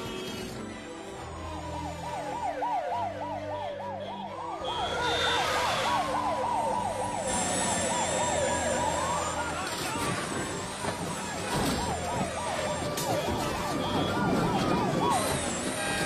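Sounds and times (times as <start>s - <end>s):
siren wailing: 1.0s - 16.0s
police siren yelping: 1.1s - 16.0s.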